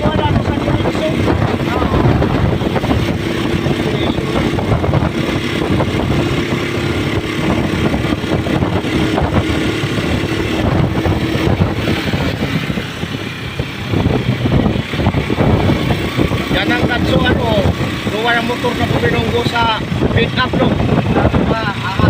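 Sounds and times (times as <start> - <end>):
motorcycle engine running: 0.0 - 22.0
rushing noise: 0.0 - 22.0.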